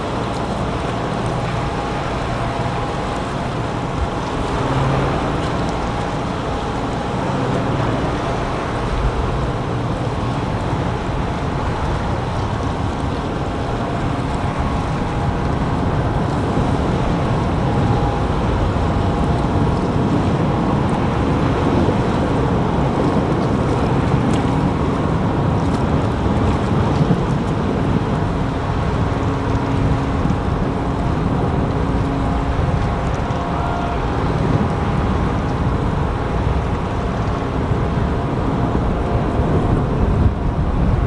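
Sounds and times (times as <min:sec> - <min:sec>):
churning water: 0:00.0 - 0:41.0
ship engines and propellers rumbling: 0:00.0 - 0:41.0.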